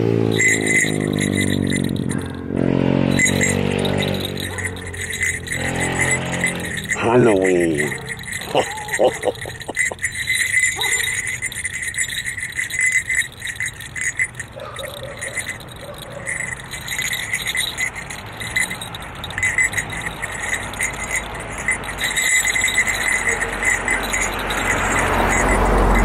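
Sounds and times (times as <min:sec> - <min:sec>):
small jingle bells jingling: 0:00.0 - 0:26.0.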